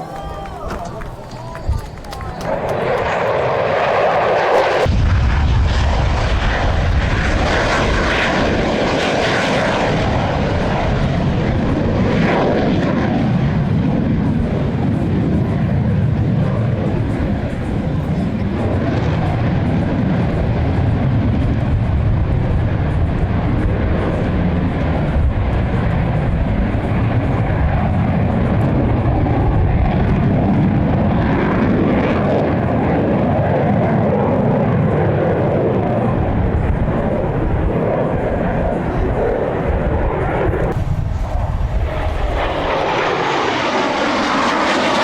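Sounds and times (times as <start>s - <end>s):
military aircraft engine rush: 0.0s - 45.0s.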